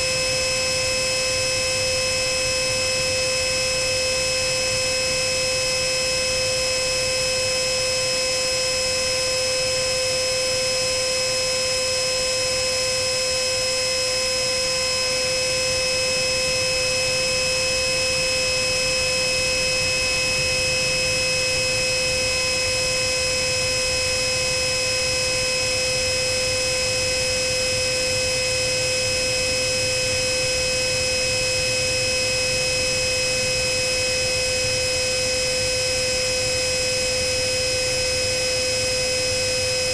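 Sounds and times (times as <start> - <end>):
electric ducted fan whine: 0.0 - 39.9.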